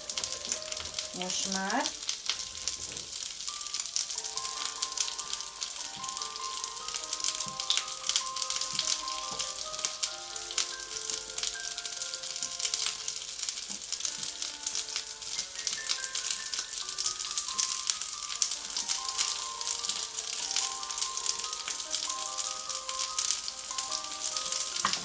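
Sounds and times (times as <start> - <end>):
soft background music: 0.0 - 25.0
vegetables sizzling in oil: 0.0 - 25.0.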